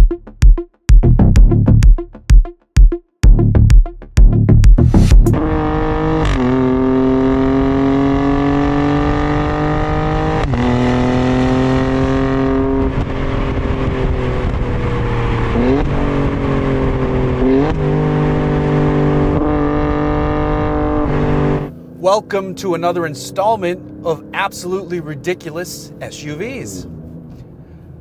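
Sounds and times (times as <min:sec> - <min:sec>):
car exhaust accelerating: 0:04.2 - 0:28.0.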